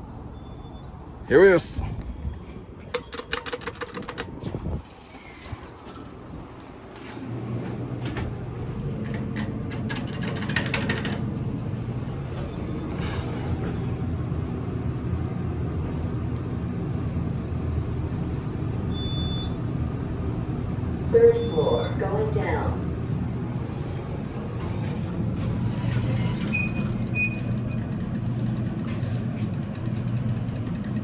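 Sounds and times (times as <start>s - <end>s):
elevator car hum: 0.0s - 31.0s
elevator clicks and clatter: 2.3s - 14.4s, 18.2s - 31.0s.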